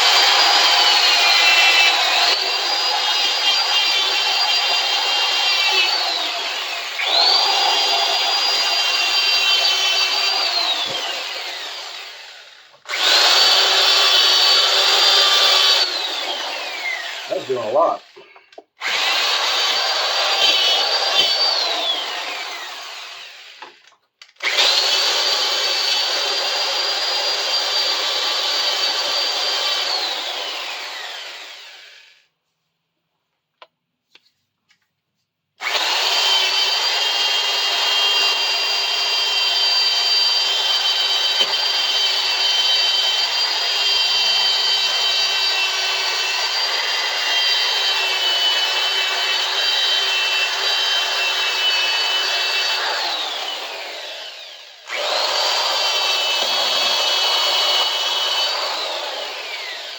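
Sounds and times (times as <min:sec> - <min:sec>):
electric drill grinding metal: 0:00.0 - 0:32.3, 0:35.6 - 0:59.9.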